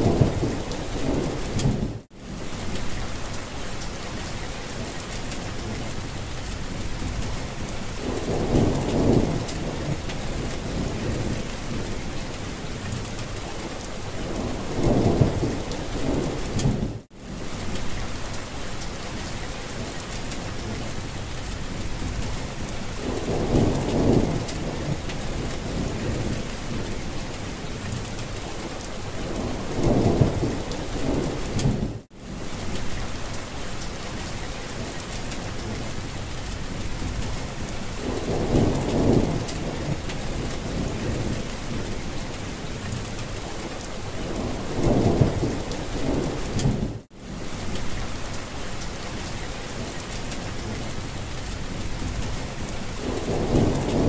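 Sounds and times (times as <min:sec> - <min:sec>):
low thunder rumbles: 0:00.0 - 0:03.3, 0:04.8 - 0:18.3, 0:19.7 - 0:33.3, 0:34.2 - 0:48.3, 0:49.2 - 0:54.0
steady rain falling: 0:00.0 - 0:54.0.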